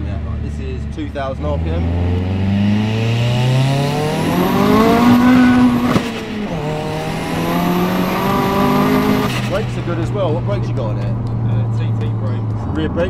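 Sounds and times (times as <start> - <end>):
car engine revving: 0.0 - 13.0
exhaust crack at upshift: 0.0 - 13.0.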